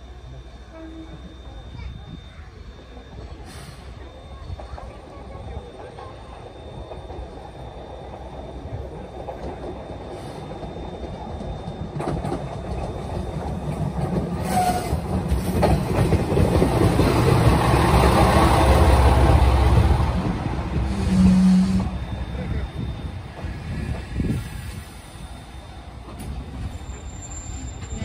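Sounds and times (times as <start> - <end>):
diesel railcar rumbling past: 0.0 - 28.0.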